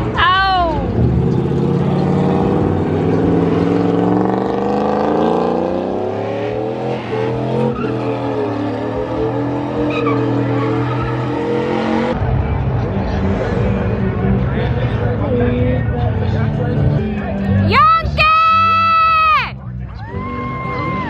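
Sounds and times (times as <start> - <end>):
truck engine accelerating: 0.0 - 17.7.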